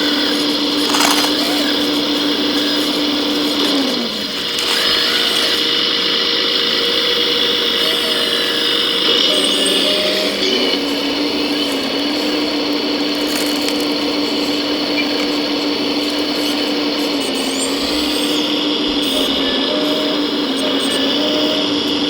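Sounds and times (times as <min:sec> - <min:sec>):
small electric motor whining: 0:00.0 - 0:22.0.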